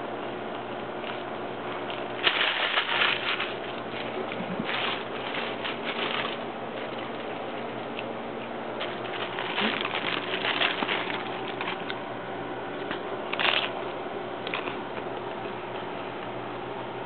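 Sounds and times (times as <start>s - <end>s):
crunching hard-shell tacos: 0.0s - 12.2s, 12.8s - 16.0s
steady low hum: 0.0s - 17.0s.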